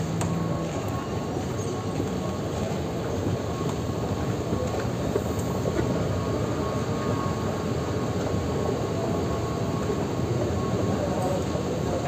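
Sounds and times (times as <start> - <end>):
station hall hum: 0.0 - 12.0.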